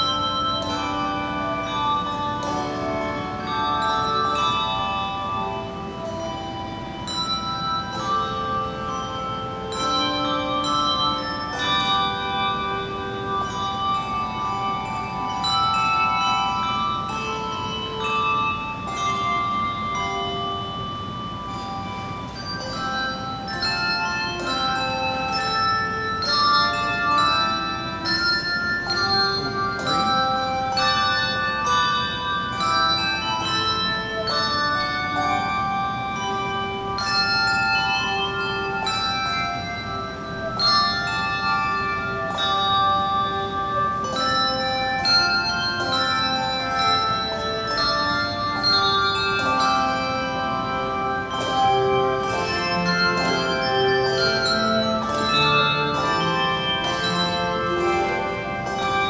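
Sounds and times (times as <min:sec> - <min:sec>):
handbell choir playing: 0:00.0 - 0:59.0.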